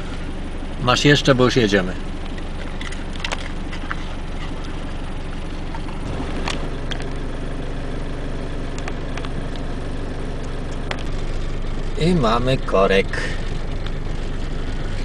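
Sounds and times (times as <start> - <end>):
car engine low hum: 0.0 - 15.0.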